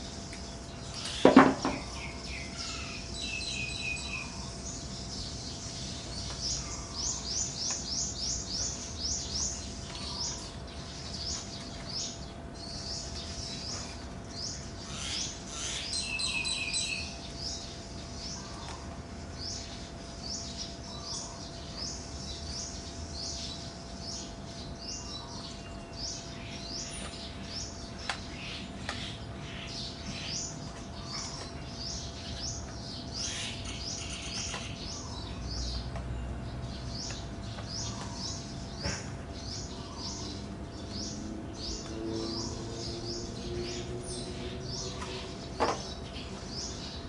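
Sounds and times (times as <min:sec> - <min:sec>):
bird chirping: 0:00.1 - 0:47.0.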